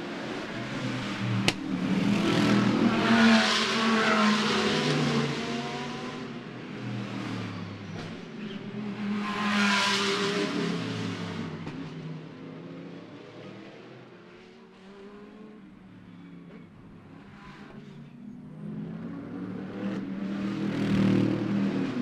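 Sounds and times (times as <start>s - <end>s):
race cars passing at speed: 0.0s - 22.0s.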